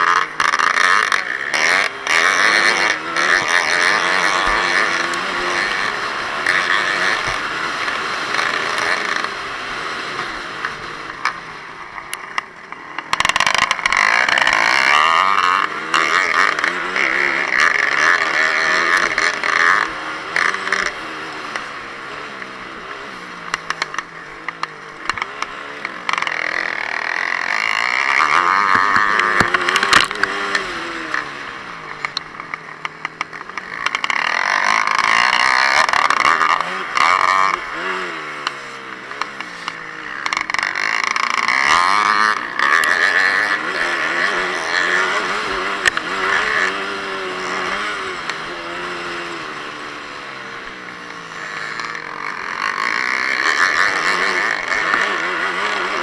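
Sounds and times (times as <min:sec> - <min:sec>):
dirt bike engine racing: 0:00.0 - 0:56.0.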